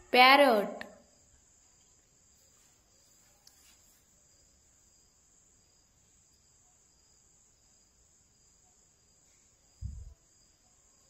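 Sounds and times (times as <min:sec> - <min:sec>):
faint high-pitched insect-like whine: 0:00.0 - 0:11.0.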